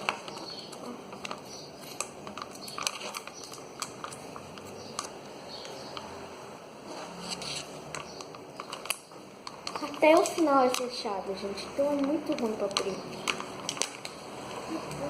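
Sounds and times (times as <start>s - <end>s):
plastic package crinkling: 0.0s - 6.0s, 7.1s - 15.0s.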